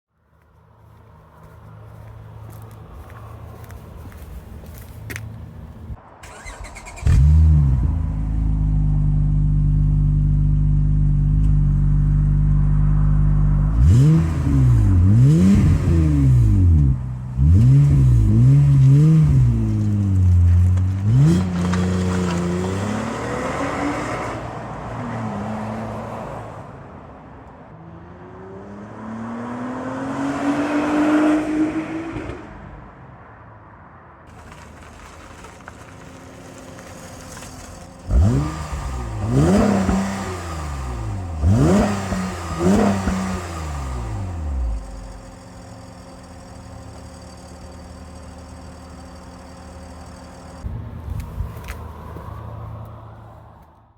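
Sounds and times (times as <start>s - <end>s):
car engine starting and revving: 5.4s - 26.1s, 27.8s - 32.8s, 34.3s - 52.8s.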